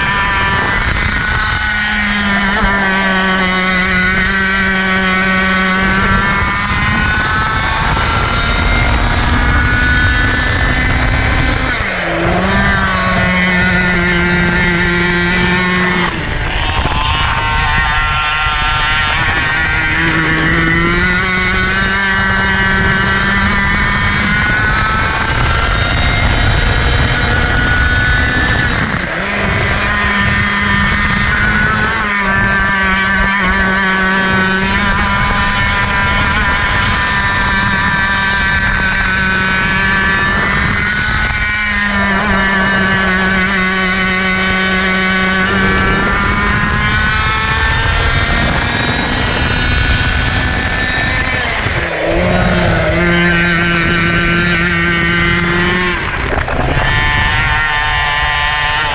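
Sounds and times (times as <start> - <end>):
kart engine revving: 0.0 - 58.9.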